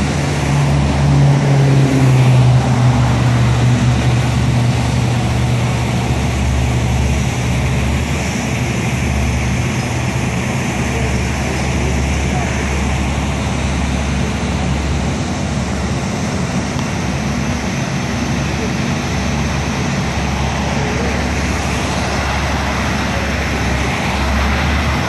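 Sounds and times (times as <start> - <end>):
broad rushing noise: 0.0 - 25.0
heavy equipment engines humming: 0.0 - 25.0.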